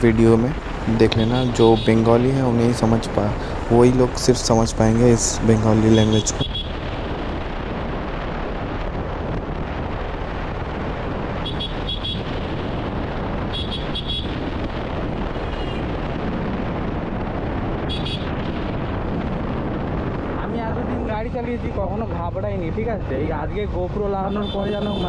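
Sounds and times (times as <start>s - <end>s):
wind rushing over camera: 0.0s - 25.0s.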